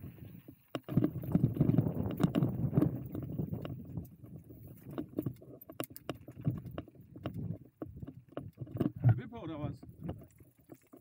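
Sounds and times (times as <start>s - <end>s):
bike tyres rumbling over ground: 0.0s - 11.0s
bike rattling with clicks: 0.2s - 11.0s.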